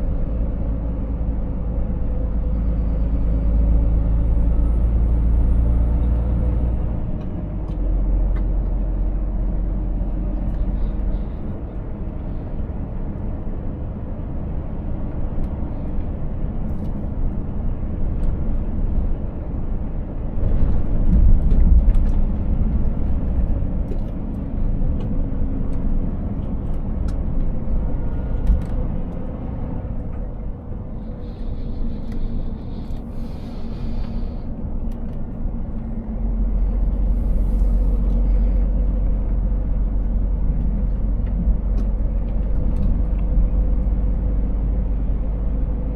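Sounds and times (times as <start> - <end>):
truck engine rumble: 0.0 - 45.9.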